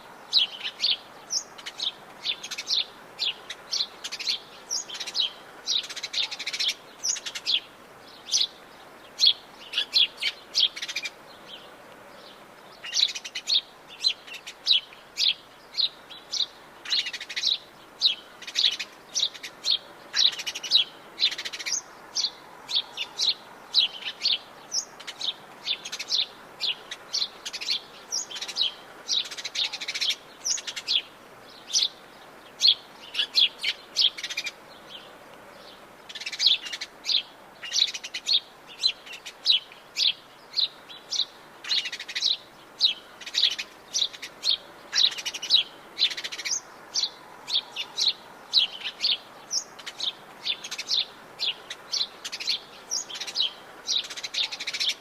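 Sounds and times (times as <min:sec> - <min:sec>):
faint background hiss: 0:00.0 - 0:55.0
birds chirping and singing: 0:00.1 - 0:55.0.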